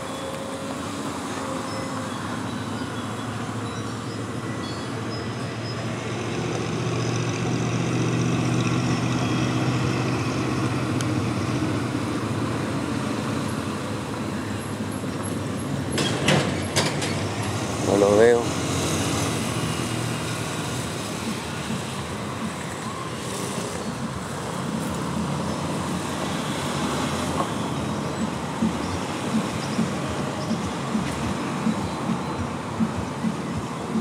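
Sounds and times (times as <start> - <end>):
road traffic noise: 0.0 - 34.0
vehicle engine hum: 0.0 - 34.0.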